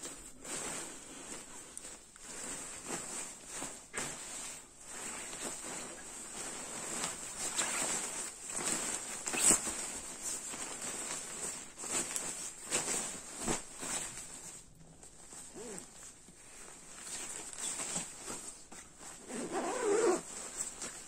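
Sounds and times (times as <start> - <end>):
nylon fabric rustling: 0.0 - 21.0.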